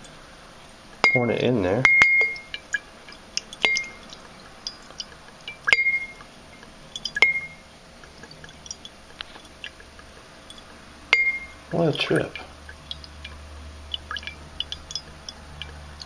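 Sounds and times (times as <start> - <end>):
liquid dripping into water: 0.0 - 16.0.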